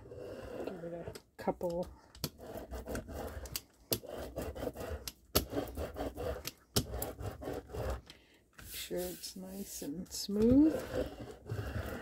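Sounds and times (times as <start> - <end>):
brayer rolling over paper: 0.0 - 12.0.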